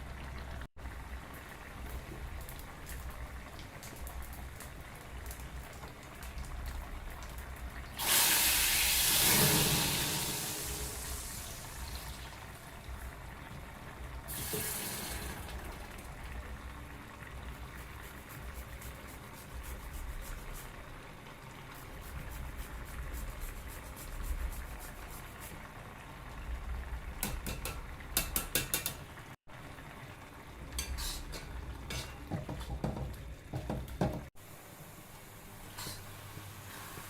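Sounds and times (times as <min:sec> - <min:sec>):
food sizzling: 0:01.1 - 0:25.7, 0:27.0 - 0:32.5.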